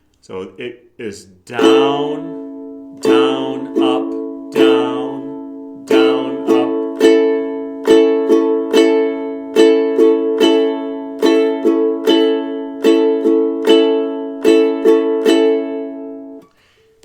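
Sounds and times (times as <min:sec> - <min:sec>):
ukulele strumming: 0:01.5 - 0:16.8.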